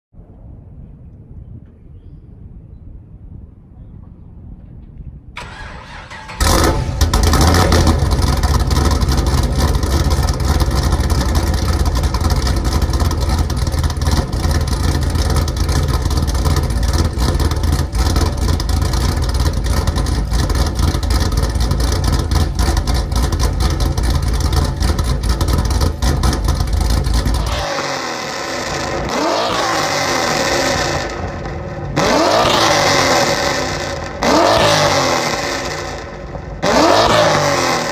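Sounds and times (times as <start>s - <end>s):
engine revving: 5.4s - 37.9s
car engine idling loudly: 6.4s - 37.9s.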